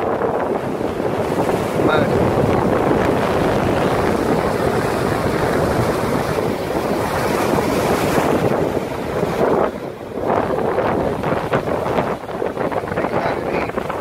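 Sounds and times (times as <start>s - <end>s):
surf breaking on rocks: 0.0s - 14.0s
wind buffeting microphone: 0.0s - 14.0s.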